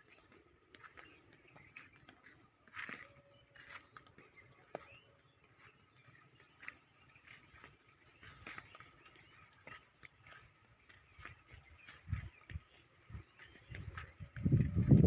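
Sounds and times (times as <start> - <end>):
bird chirps: 0.0 - 15.0
insect drone: 0.0 - 15.0.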